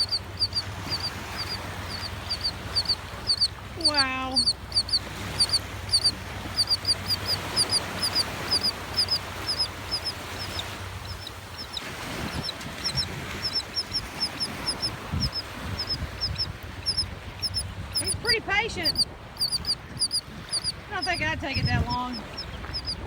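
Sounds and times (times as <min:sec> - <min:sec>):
gull calling: 0:00.0 - 0:23.0.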